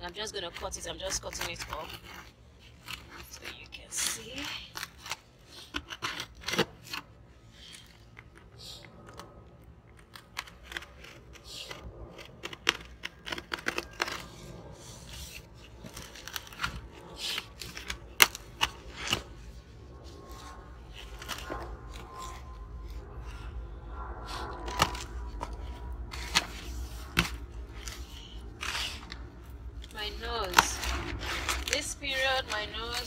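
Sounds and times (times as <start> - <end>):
scissors cutting cardboard: 0.1 - 23.6, 24.2 - 33.0.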